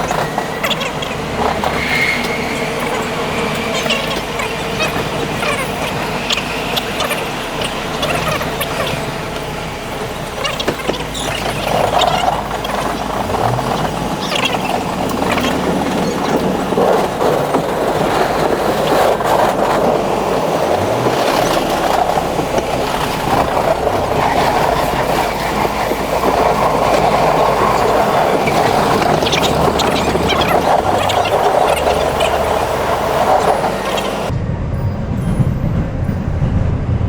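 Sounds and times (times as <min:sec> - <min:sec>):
subway train wheels rumbling on rails: 0:00.0 - 0:37.0.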